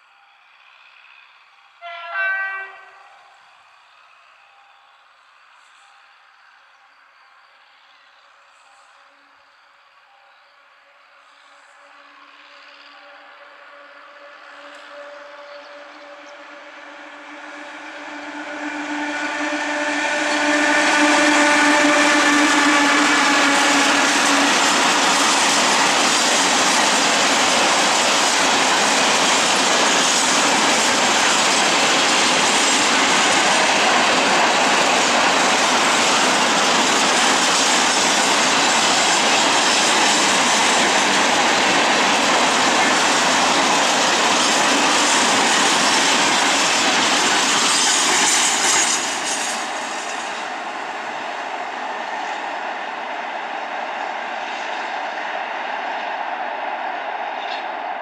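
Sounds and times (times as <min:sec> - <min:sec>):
locomotive whine: 0:00.0 - 0:58.0
train wheels on rails: 0:00.0 - 0:58.0
locomotive hum: 0:00.1 - 0:58.0.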